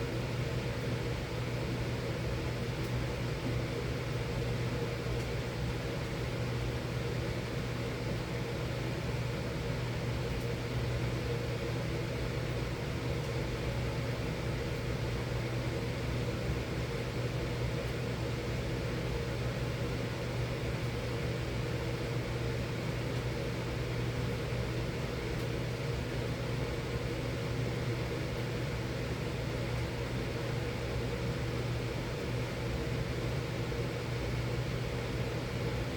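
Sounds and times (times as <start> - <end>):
furnace humming: 0.0 - 35.9.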